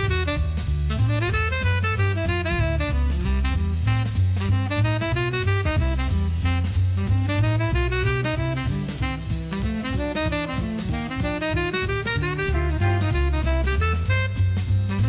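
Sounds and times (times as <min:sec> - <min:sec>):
bass: 0:00.0 - 0:15.0
drum kit: 0:00.0 - 0:15.0
saxophone melody: 0:00.0 - 0:15.0.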